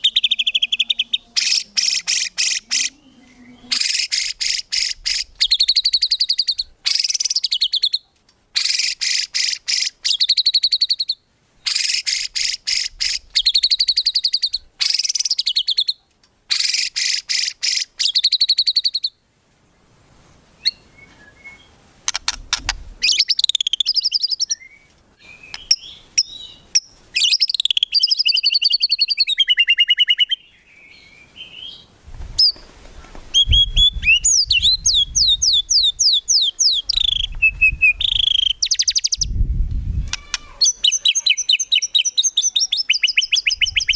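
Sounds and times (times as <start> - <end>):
bird singing trills and whistles: 0.0 - 8.0, 8.6 - 19.2, 20.6 - 32.6, 33.3 - 39.4, 40.1 - 43.9.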